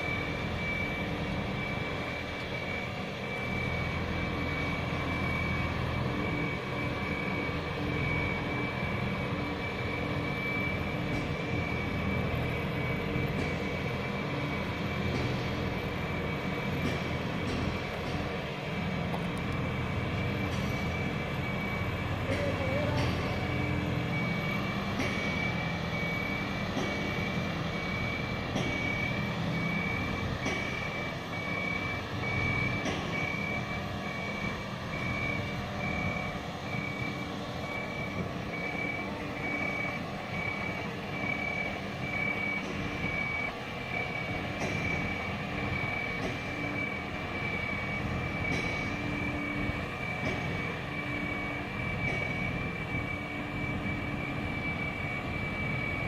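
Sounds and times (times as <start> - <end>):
high warning alarm beeping: 0.0 - 56.0
machine engines running: 0.0 - 56.0.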